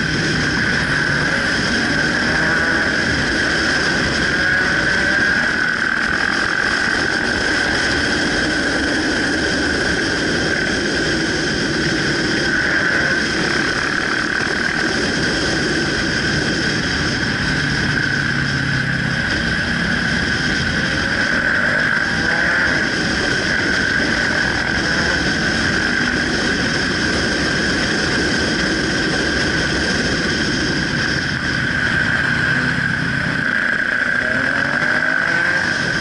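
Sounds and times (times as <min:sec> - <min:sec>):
motorcycle engine whine: 0:00.0 - 0:36.0
rushing wind: 0:00.0 - 0:36.0.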